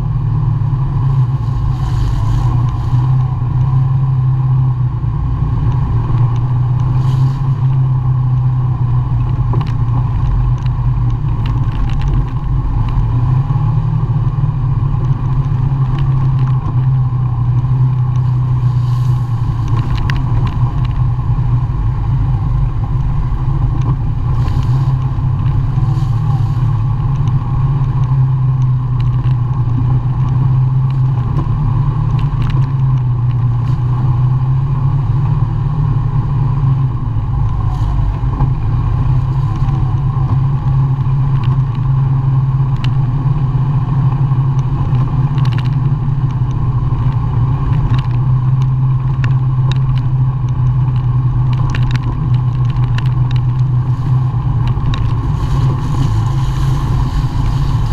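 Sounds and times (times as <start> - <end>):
atv engine running: 0.0 - 57.9
clicks and knocks over bumps: 5.6 - 34.5, 36.3 - 57.9.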